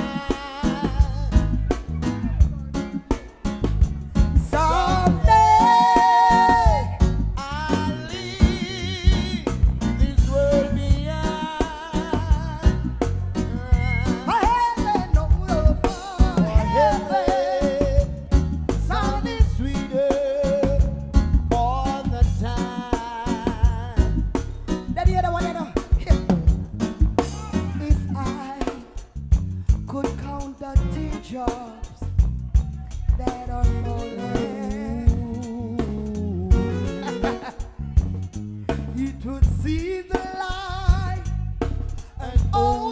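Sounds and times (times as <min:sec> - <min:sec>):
person singing: 0:00.0 - 0:01.9, 0:04.4 - 0:24.3, 0:27.3 - 0:29.0, 0:29.9 - 0:32.2, 0:32.9 - 0:38.1, 0:38.8 - 0:42.9
reggae band playing: 0:00.0 - 0:42.9.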